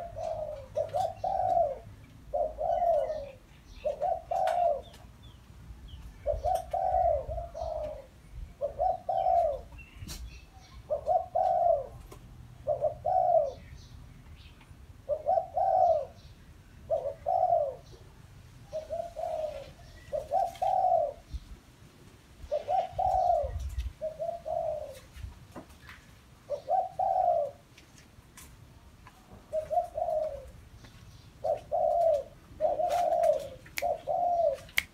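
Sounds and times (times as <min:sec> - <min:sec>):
dove cooing: 0:00.0 - 0:05.1, 0:06.0 - 0:13.9, 0:15.0 - 0:21.5, 0:22.4 - 0:25.2, 0:26.4 - 0:27.7, 0:29.4 - 0:30.6, 0:31.4 - 0:34.9.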